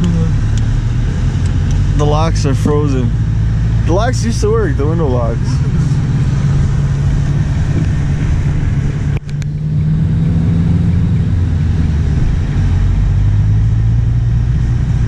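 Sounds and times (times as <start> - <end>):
car engine and road noise drone: 0.0 - 15.0.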